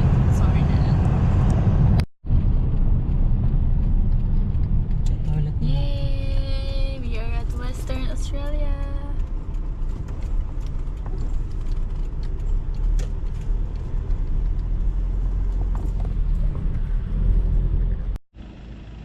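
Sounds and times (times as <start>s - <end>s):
car driving on road: 0.0s - 19.0s.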